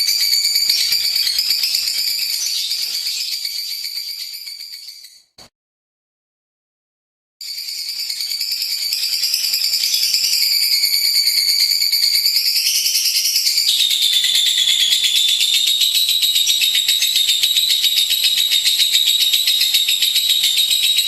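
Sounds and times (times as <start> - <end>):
lovebird high-pitched trill: 0.0 - 5.4, 7.4 - 21.0.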